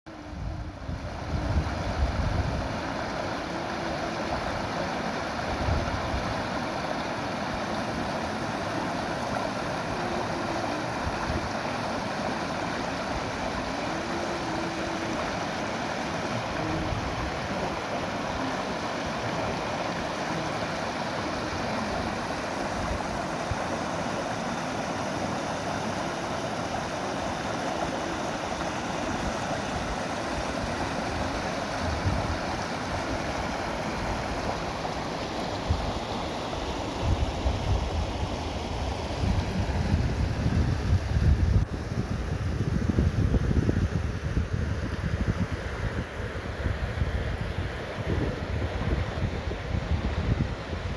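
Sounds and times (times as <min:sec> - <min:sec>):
stream rushing: 0:00.1 - 0:50.9
wind rumbling on microphone: 0:00.1 - 0:50.9.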